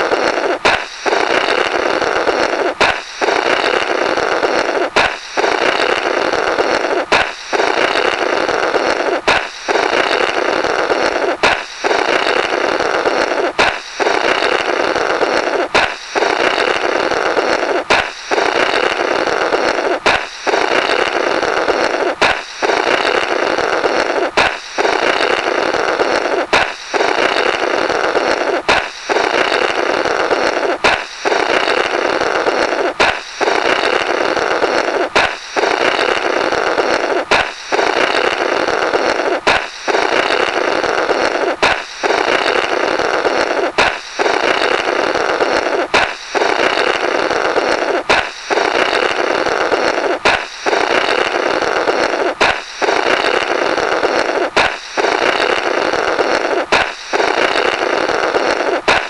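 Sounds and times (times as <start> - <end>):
balloon popping: 0.0 - 59.0
blowing through burst balloon: 0.0 - 59.0.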